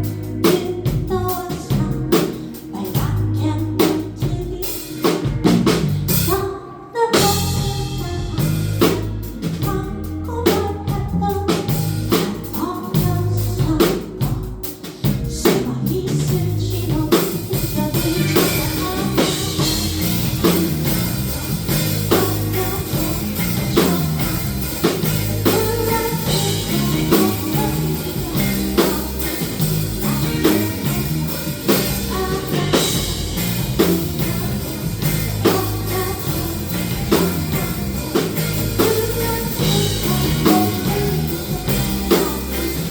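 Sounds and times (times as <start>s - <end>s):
person singing: 0.0s - 5.5s, 6.1s - 42.9s
band playing: 0.0s - 42.9s.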